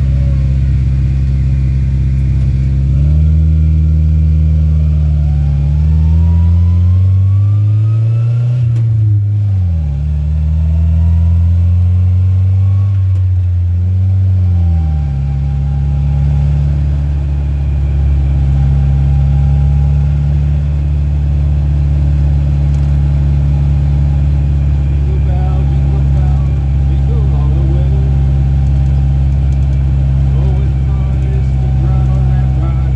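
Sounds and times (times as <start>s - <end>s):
truck engine accelerating: 0.0s - 32.9s.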